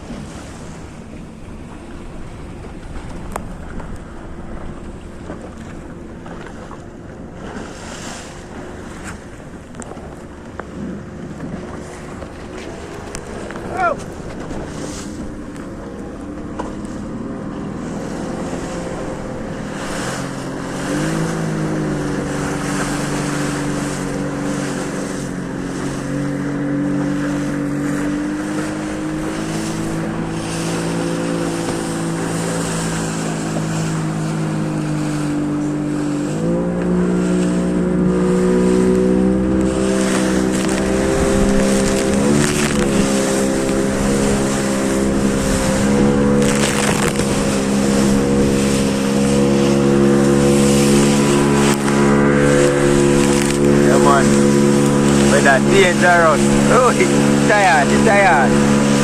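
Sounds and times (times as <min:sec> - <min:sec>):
boat motor running: 0:00.0 - 0:59.0
water noise: 0:00.0 - 0:59.0
wind: 0:00.0 - 0:59.0.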